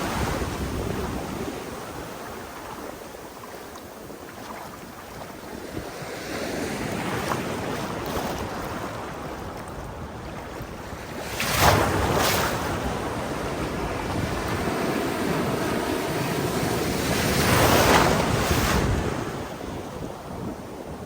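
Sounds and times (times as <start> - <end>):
ocean waves crashing on beach: 0.0 - 3.2, 4.3 - 21.0
wind buffeting microphone: 0.0 - 21.0.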